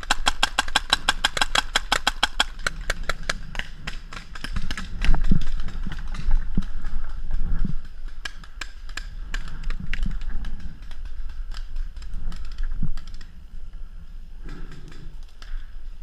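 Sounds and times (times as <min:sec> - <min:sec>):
sharp clicks and pops: 0:00.0 - 0:13.8, 0:14.4 - 0:15.7
steady low rumble: 0:00.0 - 0:16.0.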